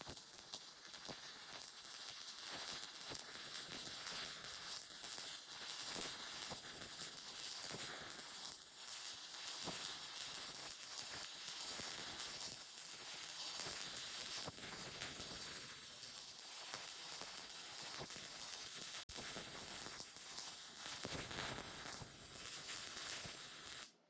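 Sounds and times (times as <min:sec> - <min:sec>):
welding arc crackling: 0:00.0 - 0:23.9.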